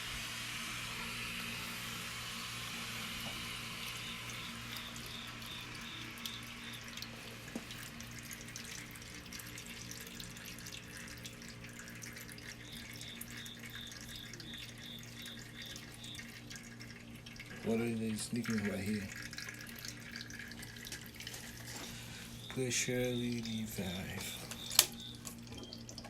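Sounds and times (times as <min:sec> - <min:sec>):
low steady hum: 0:00.0 - 0:26.0
water hissing from a leak: 0:00.0 - 0:26.0
water drips: 0:03.2 - 0:26.0.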